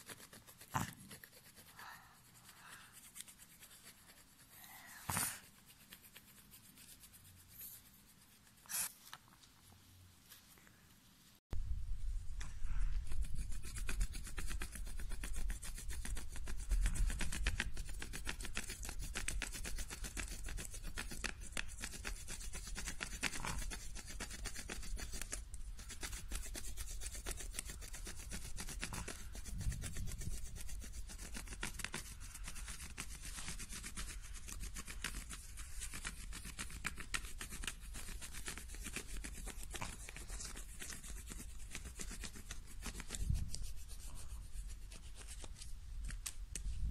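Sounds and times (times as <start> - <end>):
crayon rubbing on paper: 0.0 - 9.0, 13.0 - 45.7.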